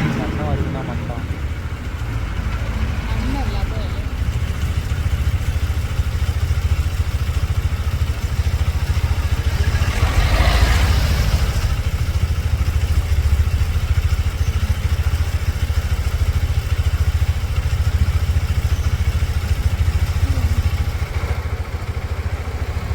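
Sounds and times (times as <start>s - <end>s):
vehicle engine rumbling: 0.0s - 22.9s.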